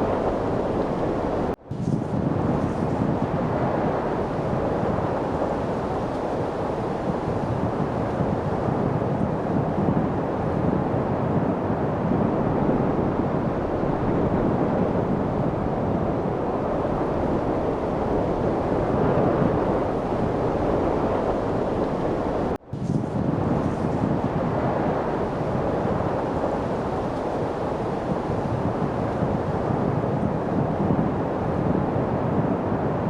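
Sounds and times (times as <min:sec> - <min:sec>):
steady wind: 0:00.0 - 0:33.0.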